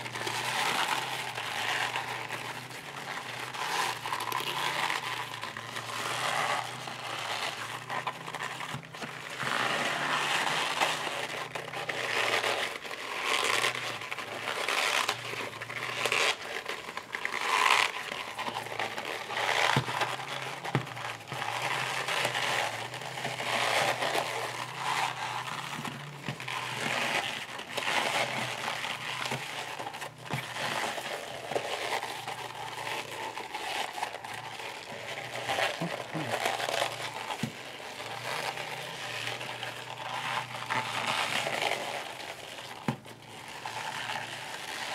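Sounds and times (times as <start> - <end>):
leather bag crumpling and rubbing: 0.0 - 44.9.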